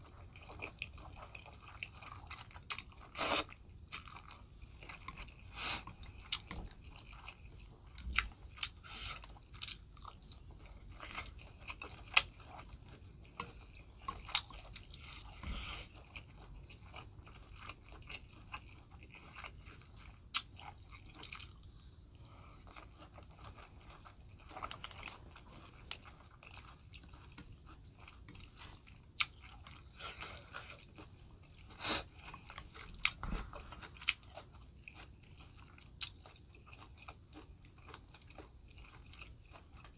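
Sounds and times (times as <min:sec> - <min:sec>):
person chewing: 0:00.0 - 0:39.9.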